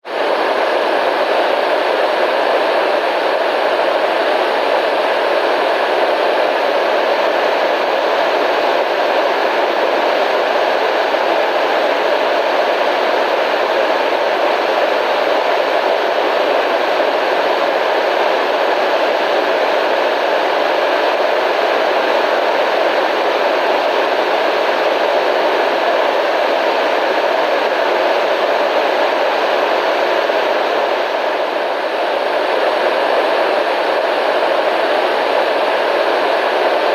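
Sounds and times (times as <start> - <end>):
radio static hiss: 0.1 - 36.9.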